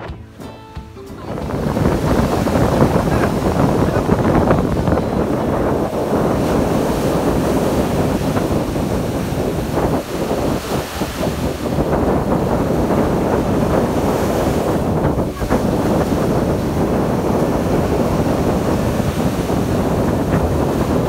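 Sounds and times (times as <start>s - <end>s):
ocean surf washing onto beach: 1.2s - 21.0s
wind buffeting microphone: 1.2s - 21.0s.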